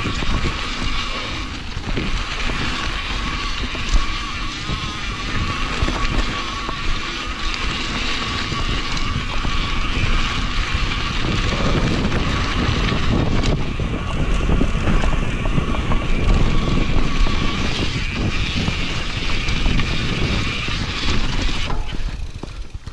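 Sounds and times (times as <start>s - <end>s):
bike knocks and rattles: 0.0s - 22.9s
low tyre rumble: 0.0s - 22.9s
wind buffeting microphone: 0.0s - 22.9s.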